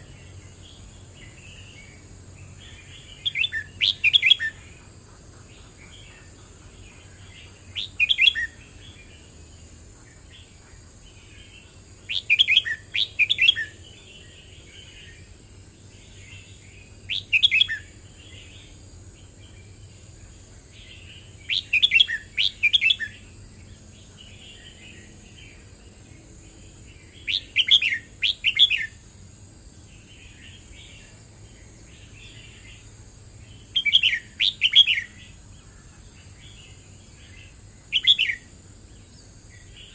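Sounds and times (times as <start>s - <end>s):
soft bird twittering: 0.0s - 20.0s, 20.7s - 29.0s, 29.9s - 39.9s.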